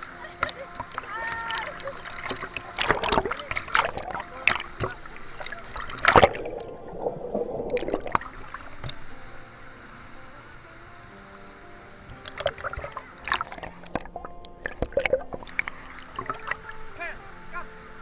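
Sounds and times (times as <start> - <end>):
water splashing: 0.0 - 18.0.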